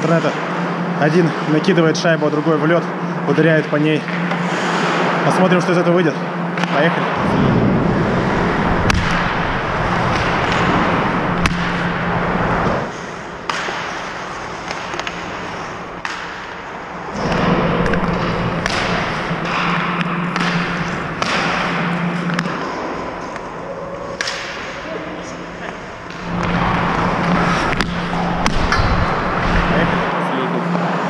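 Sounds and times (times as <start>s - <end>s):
hockey sticks striking pucks: 3.3s - 5.5s, 6.6s - 7.2s, 8.0s - 31.0s.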